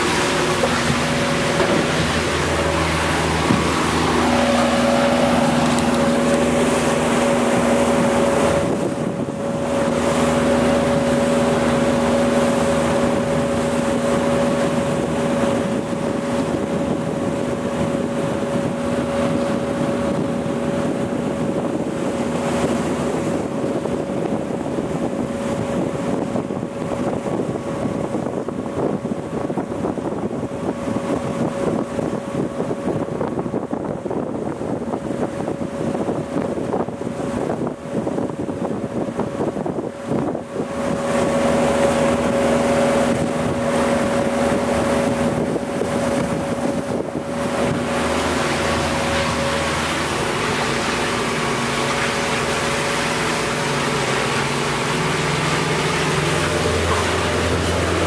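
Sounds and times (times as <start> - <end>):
outboard motor running: 0.0 - 58.0
water noise: 0.0 - 58.0
wind on microphone: 0.0 - 58.0.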